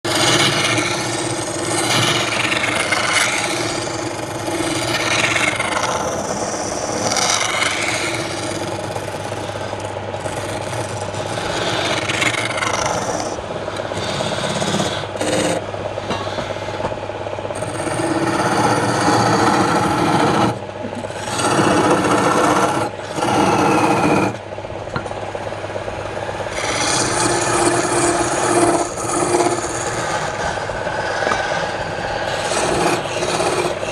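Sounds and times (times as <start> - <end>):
lathe motor hum: 0.0 - 33.9
tool scraping spinning wood: 0.0 - 33.9.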